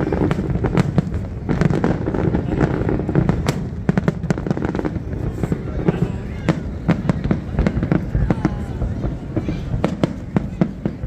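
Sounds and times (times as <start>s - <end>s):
continuous low rumble: 0.0s - 11.0s.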